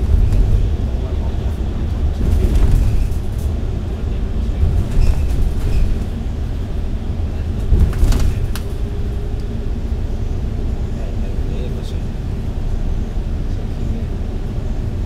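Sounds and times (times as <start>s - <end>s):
bus engine and tyre rumble: 0.0s - 15.0s.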